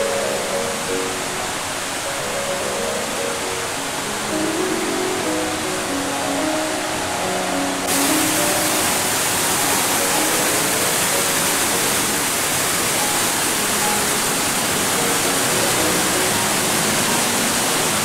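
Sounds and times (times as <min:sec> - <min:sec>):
waterfall rushing over rock: 0:00.0 - 0:18.0.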